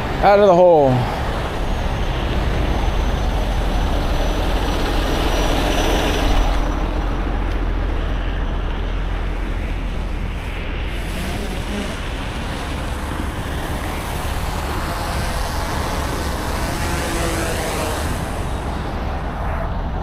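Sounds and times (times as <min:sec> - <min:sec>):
road and rain noise: 0:00.0 - 0:20.0
truck engine rumble: 0:00.8 - 0:20.0.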